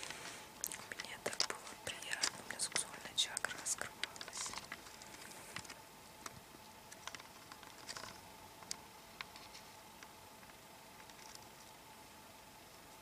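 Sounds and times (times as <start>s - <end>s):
faint irregular clicks: 0.0s - 11.8s
faint steady hum: 0.0s - 13.0s.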